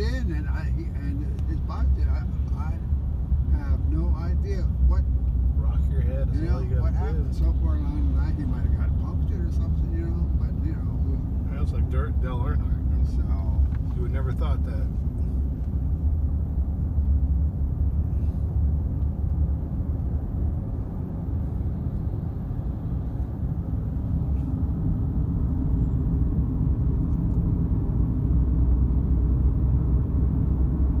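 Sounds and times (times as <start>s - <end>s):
car interior road noise: 0.0s - 31.0s.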